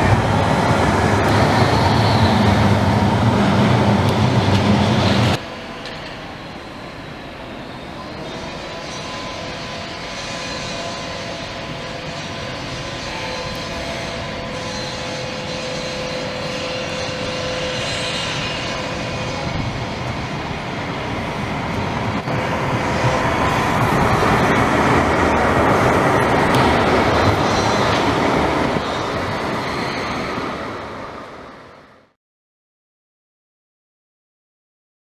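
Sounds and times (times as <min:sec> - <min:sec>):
tram passing: 0:00.0 - 0:32.2.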